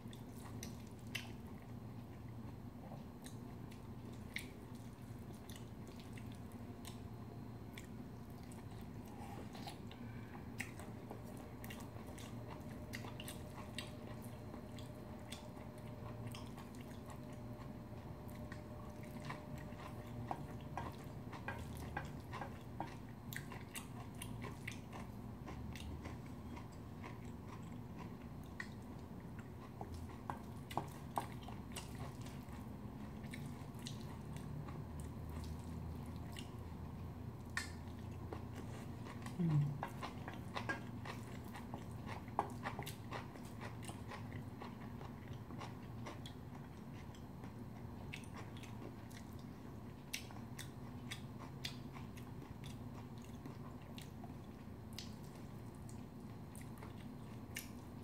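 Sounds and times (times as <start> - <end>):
soft squishing of food: 0.0 - 58.0.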